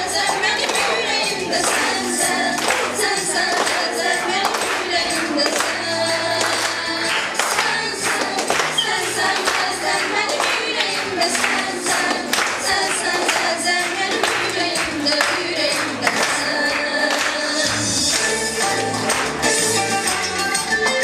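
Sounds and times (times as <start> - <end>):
girls singing: 0.0 - 18.4
backing music with steady beat: 0.0 - 21.0.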